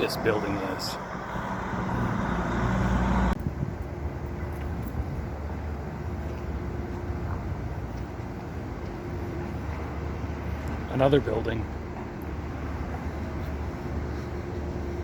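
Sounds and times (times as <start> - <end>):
faint engine hum: 0.0 - 15.0
street traffic rumble: 0.0 - 15.0.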